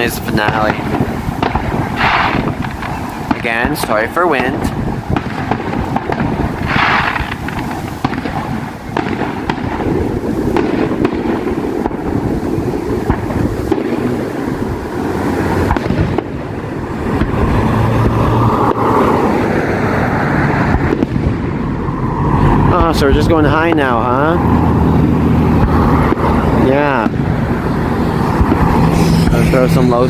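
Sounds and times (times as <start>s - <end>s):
fireworks bangs and crackles: 0.0s - 30.0s
wind buffeting microphone: 0.0s - 30.0s.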